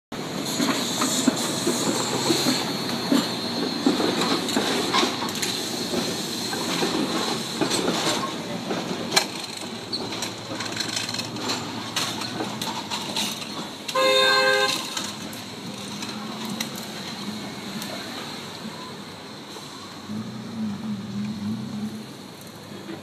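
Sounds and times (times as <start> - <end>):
train wheels clicking over rail joints: 0.2 - 18.6.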